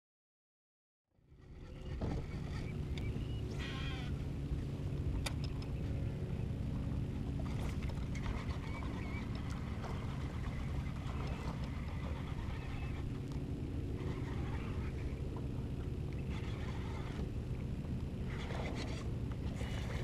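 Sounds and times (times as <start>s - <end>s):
boat hum: 1.1s - 20.0s.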